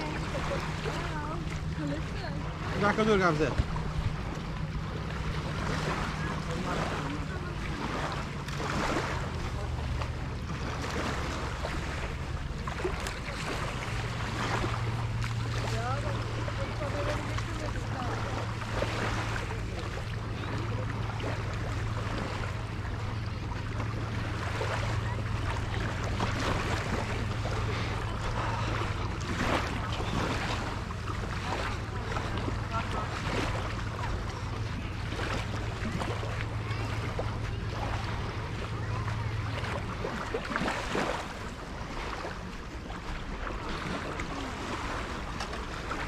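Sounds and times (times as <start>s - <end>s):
distant voices: 0.0s - 46.0s
steady low hum: 0.0s - 46.0s
surf: 0.0s - 46.0s
waves washing on beach: 0.0s - 46.0s
wind: 0.0s - 46.0s.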